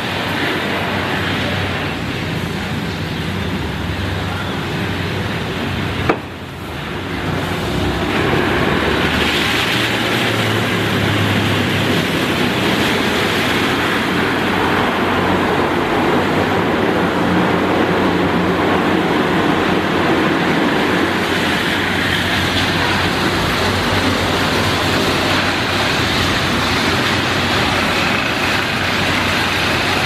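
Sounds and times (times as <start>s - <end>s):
water spray: 0.0s - 30.0s.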